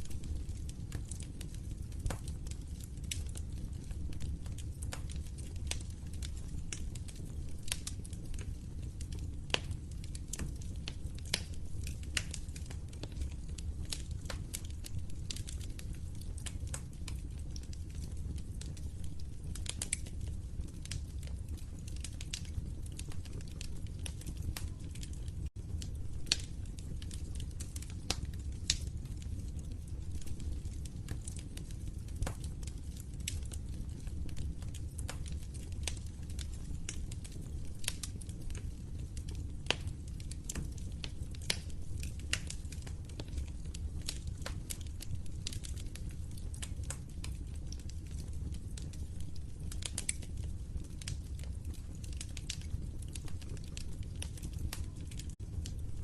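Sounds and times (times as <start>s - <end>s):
fire popping and snapping: 0.0s - 56.0s
log fire crackling: 0.0s - 56.0s
low rumble of flames: 0.0s - 56.0s.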